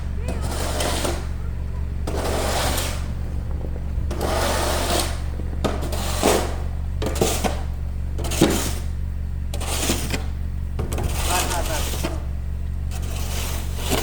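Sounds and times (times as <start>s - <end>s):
low mechanical hum: 0.0s - 14.0s
rough scraping strokes: 0.0s - 14.0s.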